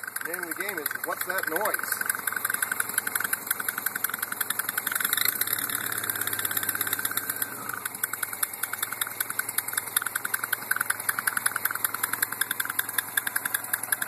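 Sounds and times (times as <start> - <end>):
car engine hum: 0.0 - 14.0
rapid fluttering clack: 0.0 - 14.0.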